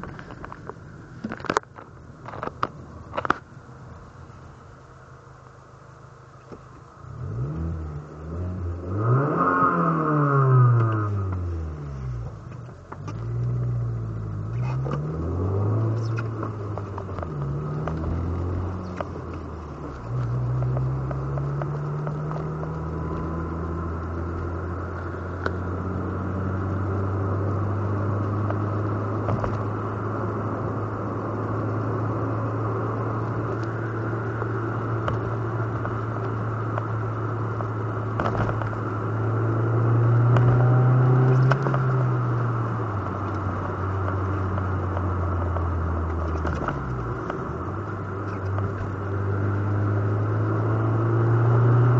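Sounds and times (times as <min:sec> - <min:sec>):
car engine revving: 0:07.0 - 0:51.9.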